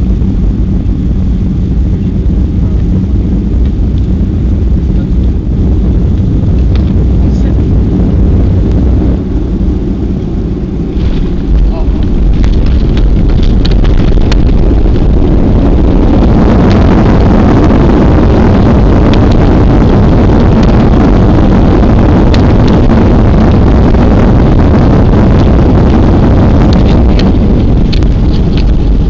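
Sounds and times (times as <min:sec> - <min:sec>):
airplane landing roll rumble: 0:00.0 - 0:29.0.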